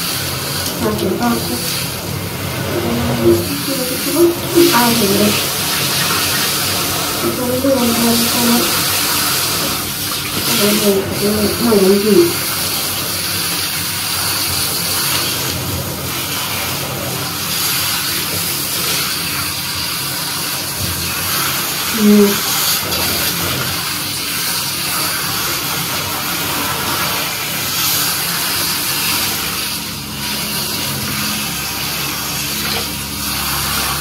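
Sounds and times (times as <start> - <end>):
shower spraying water: 0.0 - 34.0.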